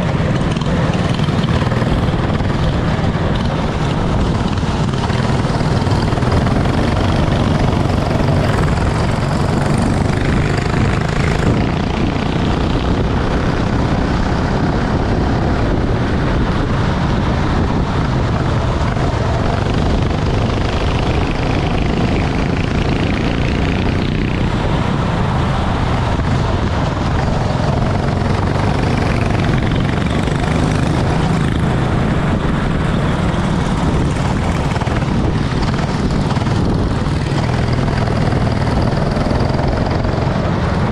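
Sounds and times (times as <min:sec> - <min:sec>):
loud steady rushing noise: 0:00.0 - 0:40.9
racing kart engine running: 0:00.0 - 0:40.9.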